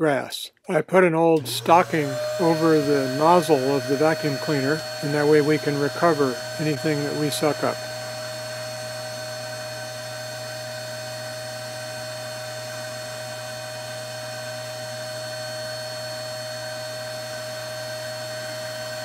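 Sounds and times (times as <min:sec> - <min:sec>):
vacuum cleaner whining: 0:01.4 - 0:19.0.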